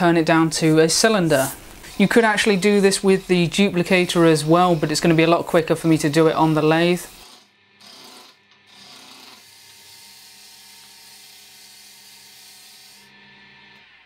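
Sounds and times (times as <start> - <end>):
tool cutting wood on lathe: 1.8 - 14.0.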